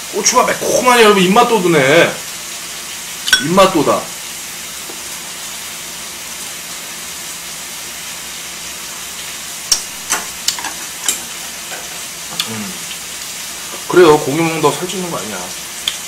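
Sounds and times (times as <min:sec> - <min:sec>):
meat frying sizzle: 0:00.0 - 0:16.0.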